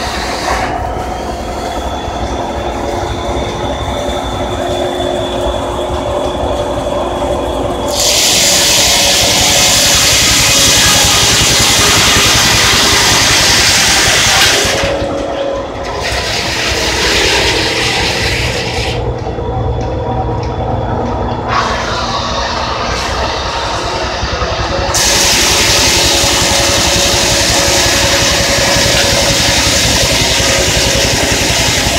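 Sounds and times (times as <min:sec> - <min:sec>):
loud steam hissing: 0:00.0 - 0:19.1, 0:21.4 - 0:31.9
sawmill machinery rumbling: 0:00.0 - 0:31.9.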